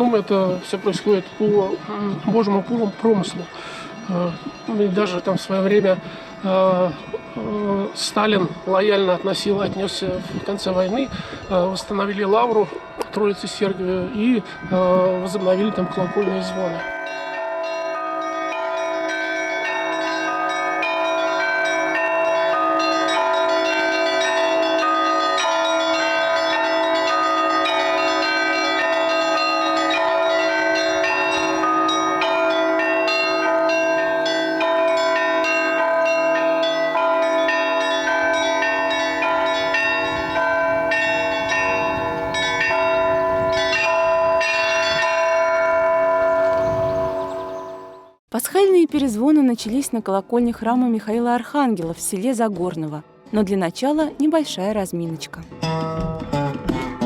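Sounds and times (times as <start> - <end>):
large bells ringing: 0.0 - 48.2.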